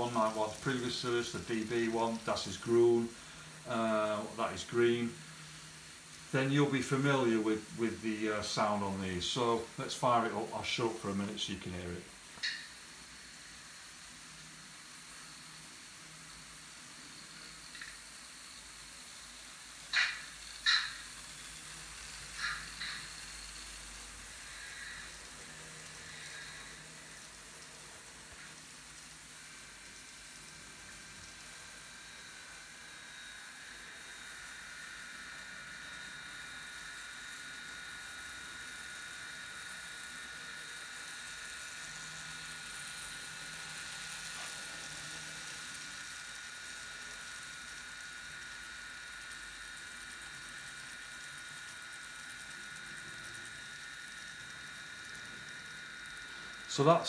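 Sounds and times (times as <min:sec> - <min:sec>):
high whining motor tones: 0:00.0 - 0:57.0
steady hiss: 0:00.0 - 0:57.0.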